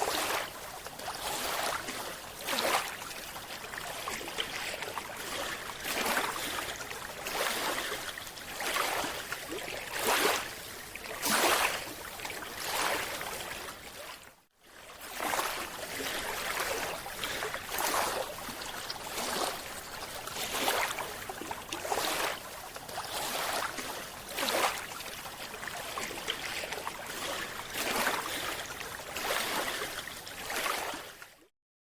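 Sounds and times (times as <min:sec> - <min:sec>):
water sloshing and splashing: 0:00.0 - 0:31.5.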